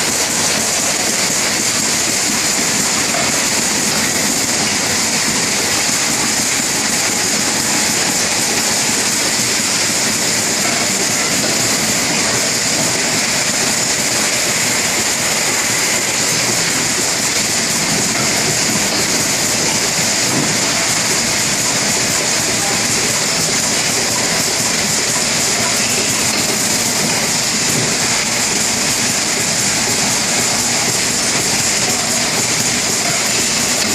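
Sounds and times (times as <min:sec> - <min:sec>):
constant machine hiss: 0:00.0 - 0:33.9
packaging machine clatter: 0:00.0 - 0:33.9.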